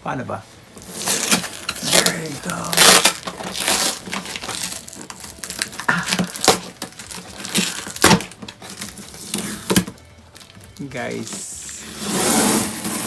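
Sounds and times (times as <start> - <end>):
packaging rustling and crinkling: 0.6 - 13.0.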